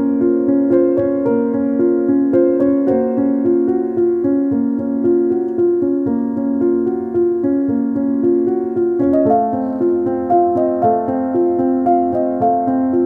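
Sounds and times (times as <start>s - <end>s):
background piano music: 0.0s - 13.0s.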